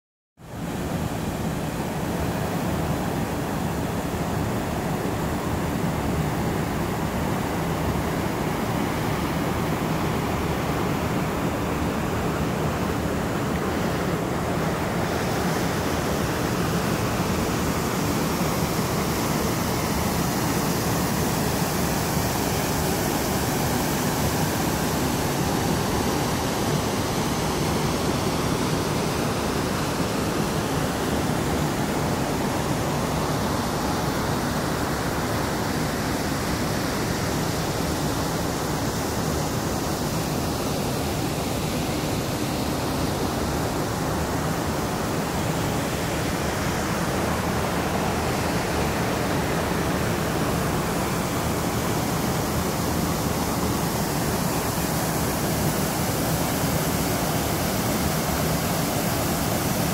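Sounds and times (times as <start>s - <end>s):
water rushing over rocks: 0.5s - 59.9s.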